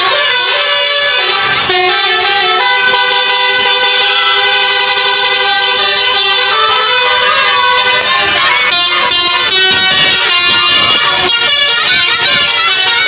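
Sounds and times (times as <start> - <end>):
musical air horn playing tune: 0.0 - 13.0.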